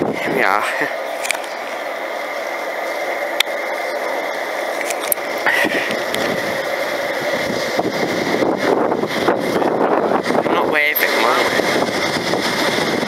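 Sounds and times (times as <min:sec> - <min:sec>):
diesel train rumble and hiss: 0:00.0 - 0:13.0.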